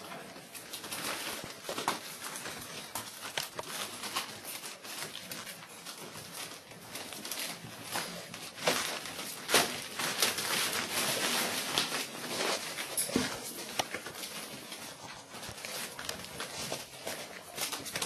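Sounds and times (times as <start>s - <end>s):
newspaper crinkling and rustling: 0.0s - 18.0s
puppy claws scratching: 0.1s - 18.0s.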